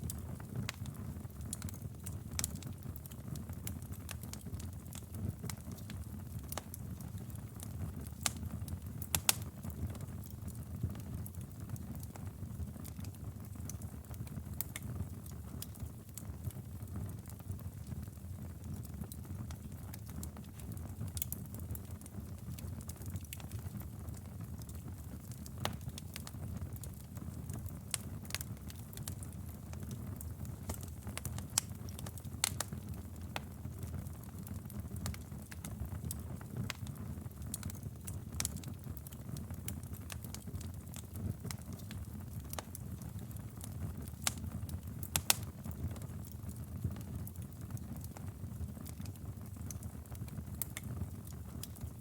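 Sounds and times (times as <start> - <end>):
fire crackling and popping: 0.0 - 52.0
flames rumbling in fireplace: 0.0 - 52.0.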